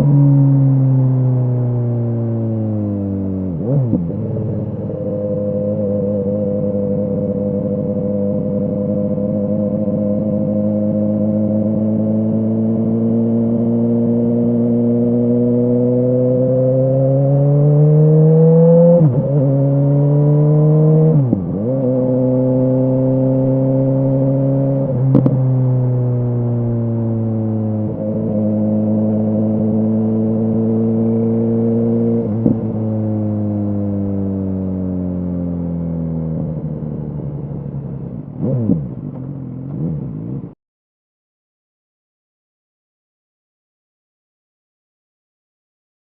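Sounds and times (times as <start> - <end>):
motorcycle engine shifting gears: 0.0 - 40.5.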